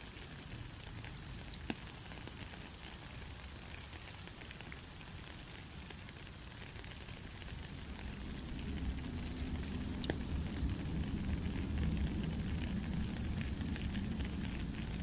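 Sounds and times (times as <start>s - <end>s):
white noise hiss: 0.0s - 15.0s.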